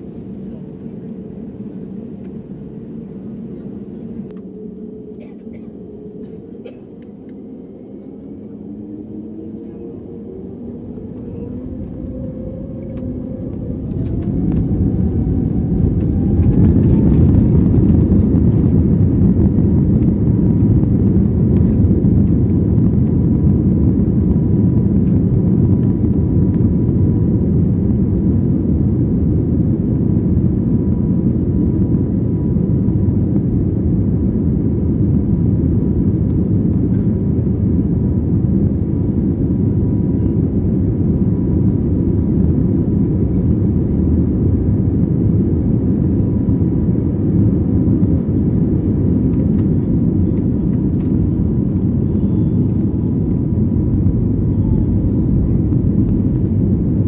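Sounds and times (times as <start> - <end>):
jet engine whine: 0.0 - 57.0
loud even rumble: 0.0 - 57.0.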